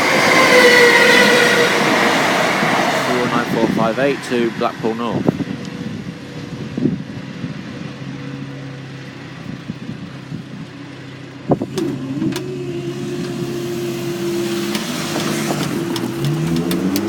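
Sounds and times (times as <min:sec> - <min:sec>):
engine pulling away: 0:00.0 - 0:17.0
road vehicle engines running: 0:00.0 - 0:17.0.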